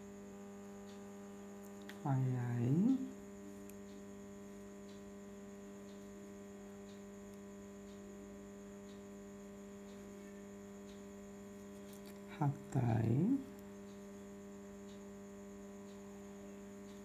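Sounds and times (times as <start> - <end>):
electrical mains hum: 0.0 - 17.0
faint ticks: 0.2 - 17.0.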